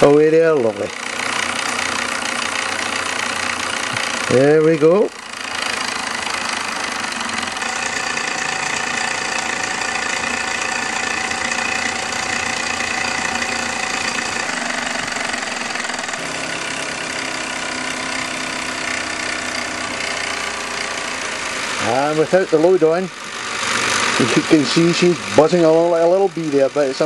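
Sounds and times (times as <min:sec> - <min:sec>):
whir of belts and small machines: 0:00.0 - 0:27.0
toy steam engine hissing and beating: 0:00.9 - 0:27.0.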